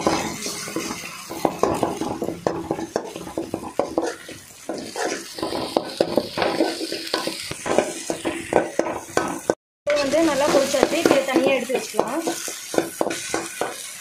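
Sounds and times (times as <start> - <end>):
eggs sizzling: 0.0 - 14.0
metal spatula scraping a pan: 0.0 - 14.0.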